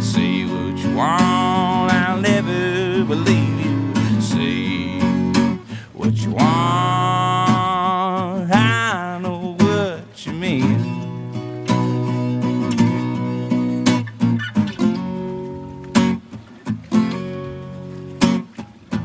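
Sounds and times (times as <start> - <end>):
acoustic guitar strumming: 0.0 - 19.0
bending melody line: 0.0 - 19.0.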